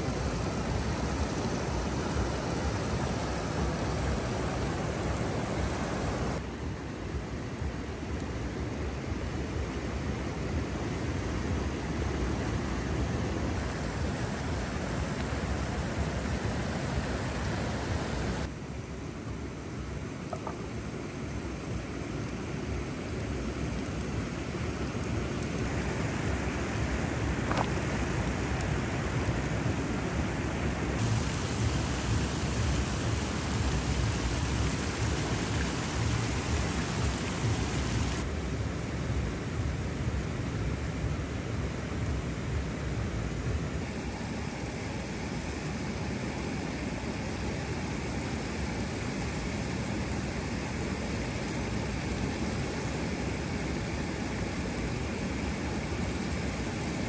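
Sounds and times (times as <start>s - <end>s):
river water pouring over weir: 0.0s - 18.5s, 19.5s - 57.0s.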